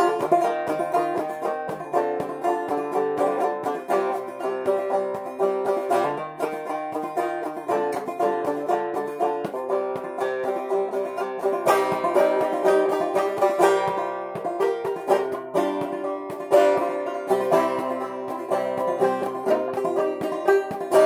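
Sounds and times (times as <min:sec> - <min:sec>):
banjo plucking and strumming: 0:00.0 - 0:21.0.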